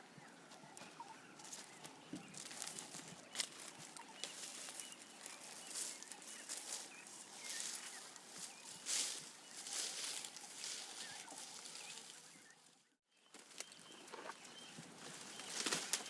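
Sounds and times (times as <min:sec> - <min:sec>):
faint bird chirps: 0:00.0 - 0:16.0
giraffe crunching leaves: 0:01.4 - 0:12.6, 0:13.3 - 0:16.0.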